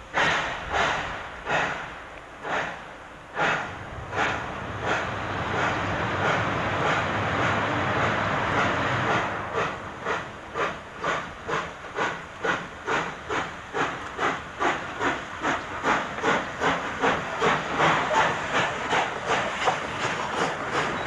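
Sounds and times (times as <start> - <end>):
steam hissing from drain cocks: 0.0 - 7.6, 8.9 - 21.0
steam locomotive exhaust chuffing: 0.0 - 21.0.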